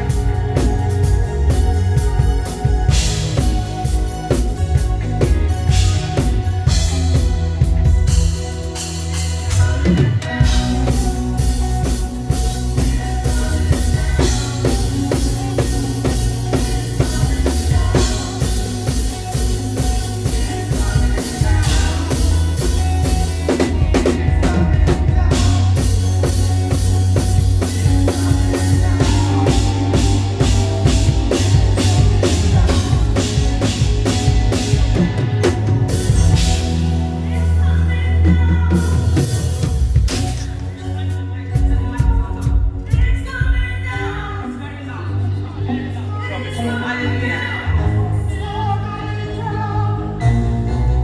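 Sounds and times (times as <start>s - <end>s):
drum kit groove: 0.0s - 43.9s
live band playing: 0.0s - 51.0s.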